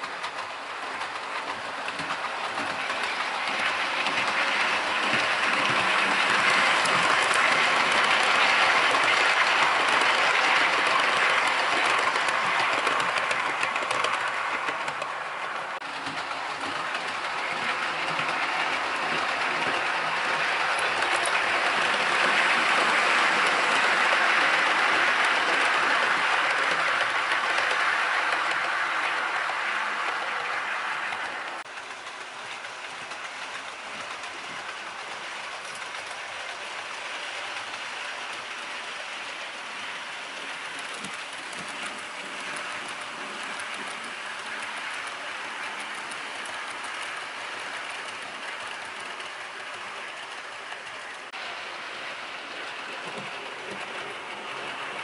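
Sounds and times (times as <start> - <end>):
model train rolling rumble: 0.0 - 55.0.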